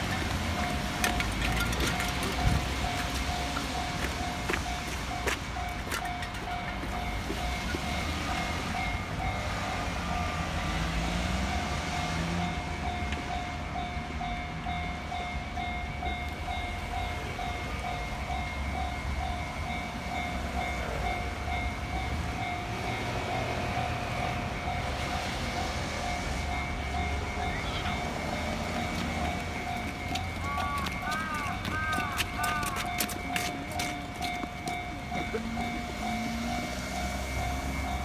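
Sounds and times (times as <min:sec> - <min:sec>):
heavy road traffic: 0:00.0 - 0:38.0
level-crossing bell ringing: 0:00.0 - 0:38.0
train rumble: 0:00.0 - 0:38.0.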